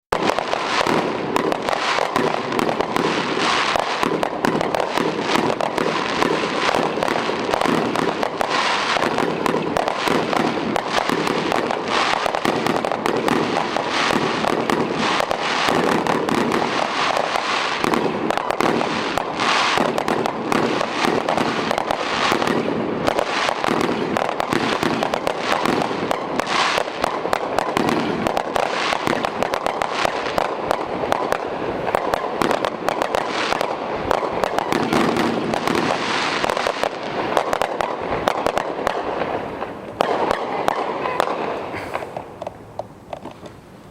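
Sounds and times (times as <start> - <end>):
fireworks exploding rapidly: 0.1 - 43.4.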